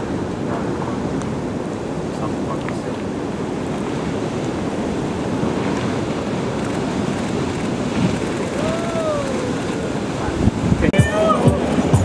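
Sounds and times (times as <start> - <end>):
ocean waves breaking: 0.0 - 12.0
wind buffeting microphone: 0.0 - 12.0.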